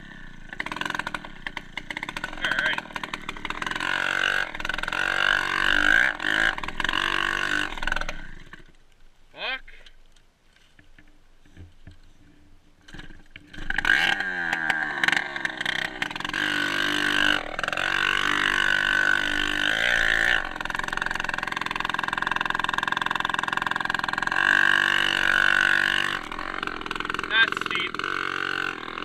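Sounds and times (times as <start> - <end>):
dirt bike engine revving: 0.0 - 8.7, 12.8 - 29.0.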